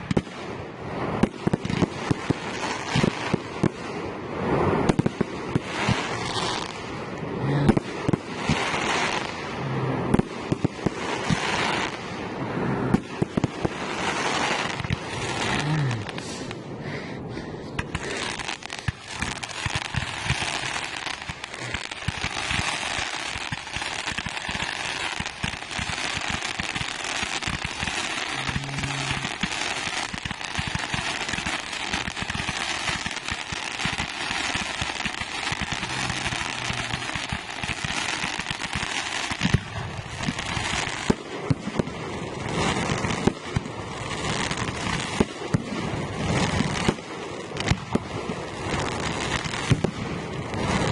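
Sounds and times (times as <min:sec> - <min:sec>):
fireworks bangs: 0:00.0 - 0:16.7, 0:17.8 - 0:50.9
fireworks crackling: 0:00.0 - 0:50.9.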